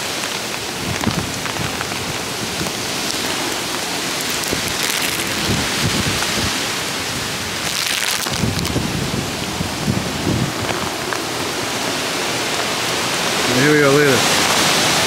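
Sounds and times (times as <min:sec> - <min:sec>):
heavy rain pouring: 0:00.0 - 0:15.0
wind buffeting microphone: 0:00.0 - 0:15.0
wind gusting through trees: 0:00.0 - 0:15.0.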